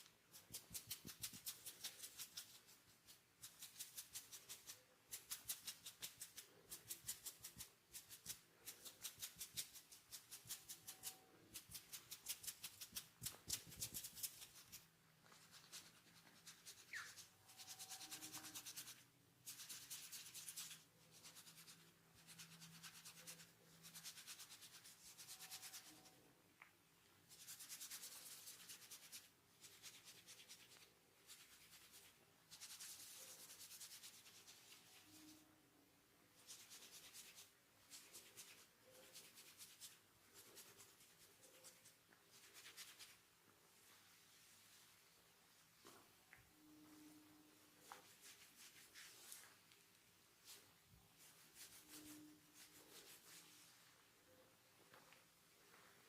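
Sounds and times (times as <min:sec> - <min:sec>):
hands rubbing hair and scalp: 0:00.0 - 0:26.2, 0:27.3 - 0:35.4, 0:36.4 - 0:46.2, 0:46.8 - 0:54.0.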